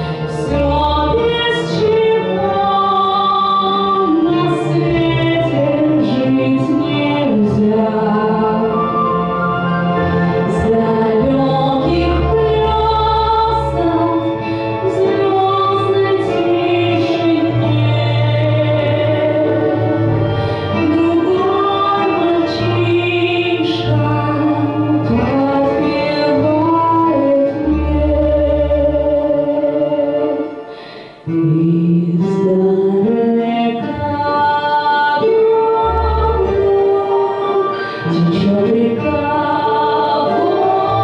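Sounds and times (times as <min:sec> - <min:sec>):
instrumental accompaniment with bass: 0:00.0 - 0:41.0.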